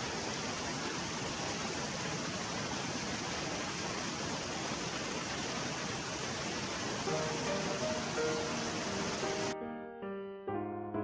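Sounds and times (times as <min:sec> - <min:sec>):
stream rushing over rocks: 0:00.0 - 0:09.6.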